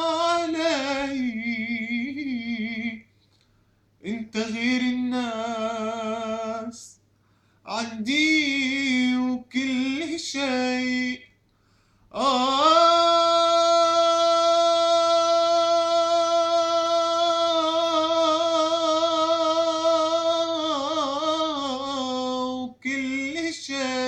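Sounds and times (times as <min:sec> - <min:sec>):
man singing: 0:00.0 - 0:03.1, 0:04.0 - 0:07.0, 0:07.7 - 0:11.4, 0:12.1 - 0:24.0.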